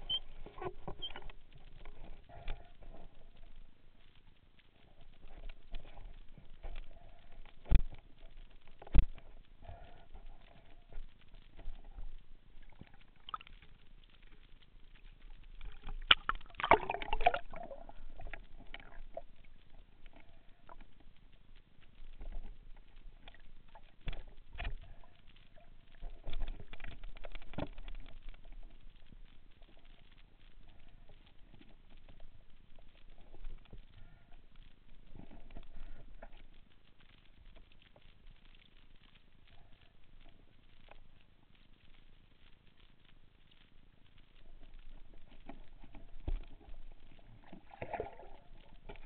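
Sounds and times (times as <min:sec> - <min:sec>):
underwater clicks and knocks: 0:00.0 - 0:04.2, 0:04.9 - 0:14.4, 0:15.0 - 0:21.3, 0:21.9 - 0:38.8, 0:44.6 - 0:49.0.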